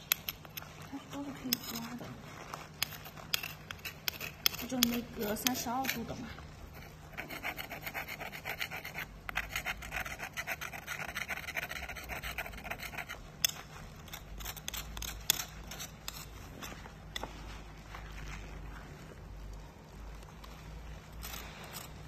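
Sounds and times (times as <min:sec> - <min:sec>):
spoon scraping concrete floor: 0:00.0 - 0:22.0.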